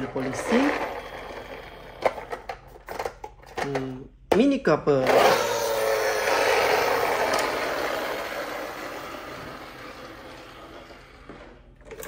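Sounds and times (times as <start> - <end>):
toy car rolling on tiled floor: 0.0 - 3.9, 5.1 - 12.0.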